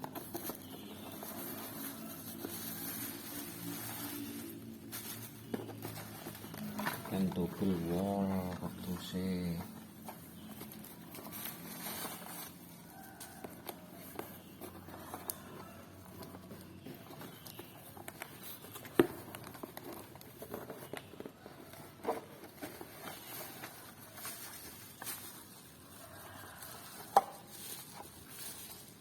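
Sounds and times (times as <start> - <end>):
cardboard box rustling: 0.0 - 29.0.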